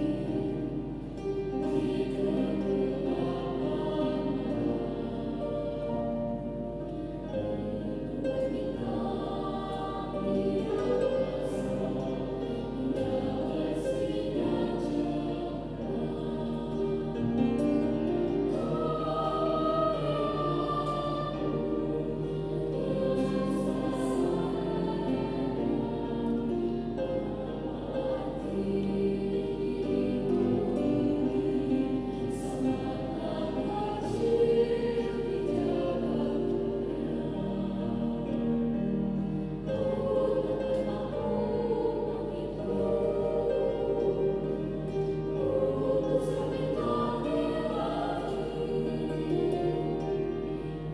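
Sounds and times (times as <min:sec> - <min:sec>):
student choir singing: 0:00.0 - 0:50.9.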